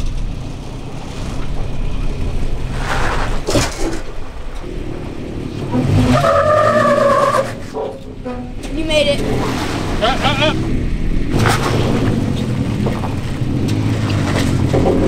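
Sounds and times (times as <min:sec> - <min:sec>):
truck engine crawling: 0:00.0 - 0:15.0.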